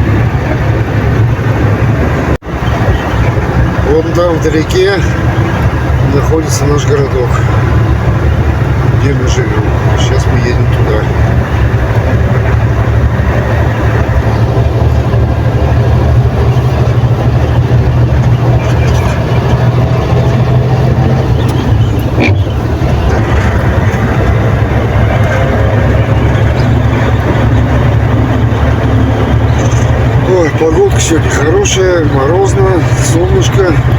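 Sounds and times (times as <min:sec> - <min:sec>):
road noise: 0:00.0 - 0:33.9
truck engine rumbling: 0:00.0 - 0:33.9.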